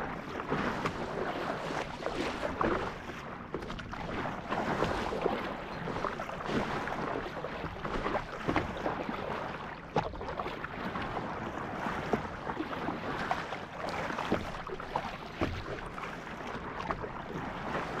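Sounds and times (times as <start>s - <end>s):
kayak paddle dipping: 0.0s - 18.0s
water splashing and lapping: 0.0s - 18.0s.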